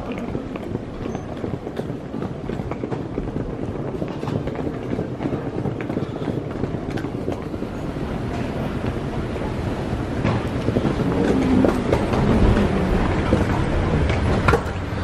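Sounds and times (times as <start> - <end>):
footstep clicks: 0.0 - 15.0
wheeled suitcases rumbling on tiles: 0.0 - 15.0.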